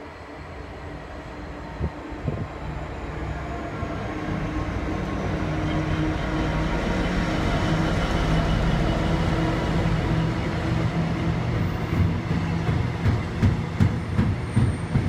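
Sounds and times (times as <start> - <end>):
diesel locomotive engine passing: 0.0 - 15.0
wheels rumbling on rails: 1.8 - 15.0.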